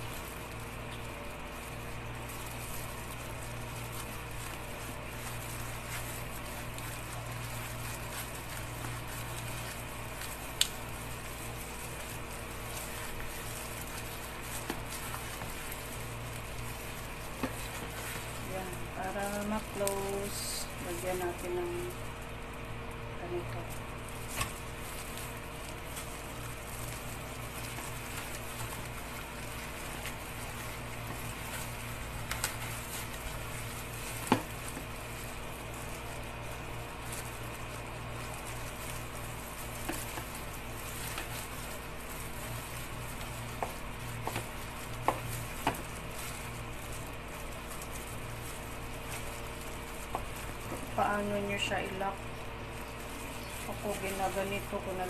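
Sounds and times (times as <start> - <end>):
rustling and crinkling of gloves: 0.0 - 55.0
steady low hum: 0.0 - 55.0.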